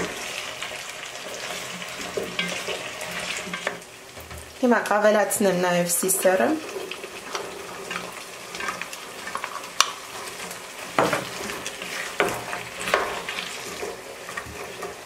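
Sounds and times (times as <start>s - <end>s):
spatula stirring in pot: 0.0s - 3.9s, 6.1s - 15.0s
food sizzling and crackling: 0.0s - 15.0s.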